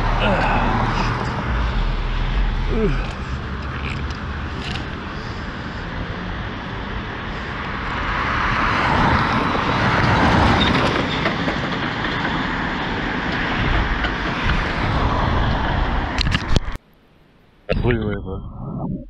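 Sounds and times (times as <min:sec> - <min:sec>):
road traffic passing: 0:00.0 - 0:16.8.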